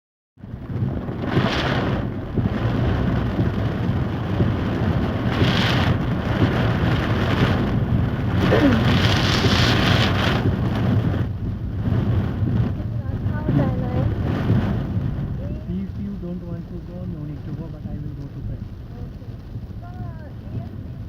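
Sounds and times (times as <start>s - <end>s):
heavy rain pouring: 0.4s - 21.0s.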